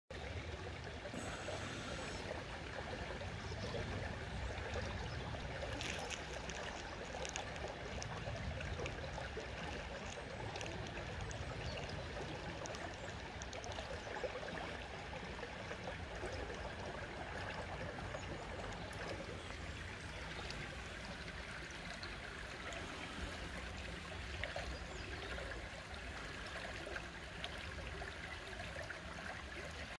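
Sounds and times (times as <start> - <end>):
stream running over stones: 0.1 - 30.0.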